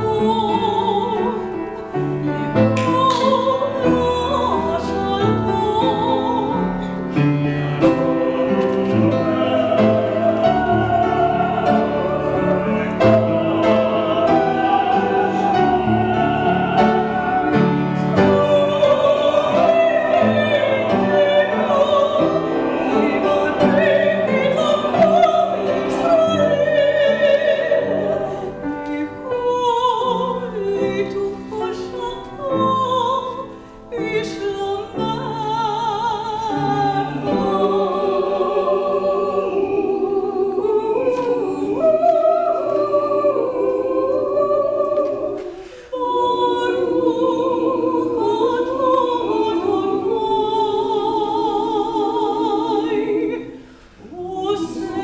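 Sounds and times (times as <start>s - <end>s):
mixed choir singing: 0.0s - 55.0s
upright piano accompaniment: 0.0s - 55.0s.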